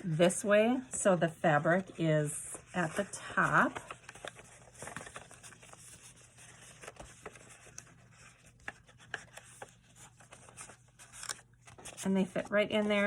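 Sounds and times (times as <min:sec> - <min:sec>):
paper rustling and scraping: 0:01.6 - 0:13.0.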